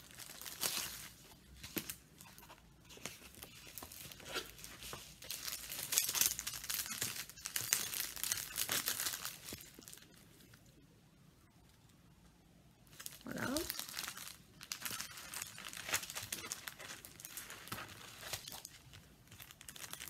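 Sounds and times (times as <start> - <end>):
packaging crinkling and rustling: 0.0 - 10.7, 12.9 - 20.0.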